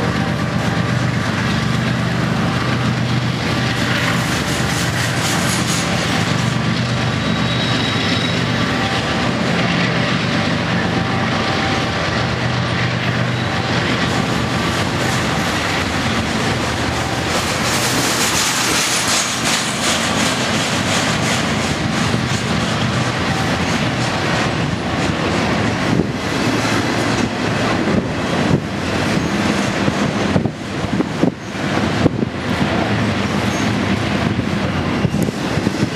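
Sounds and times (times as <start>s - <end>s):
diesel locomotive engine drone: 0.0s - 35.9s
train rolling noise: 0.0s - 35.9s.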